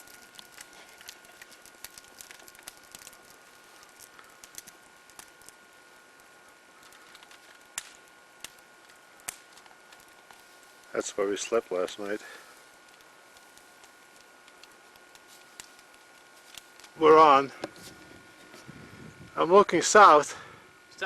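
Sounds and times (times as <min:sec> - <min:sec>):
campfire crackling and popping: 0:00.0 - 0:21.0
steady hiss: 0:00.0 - 0:21.0.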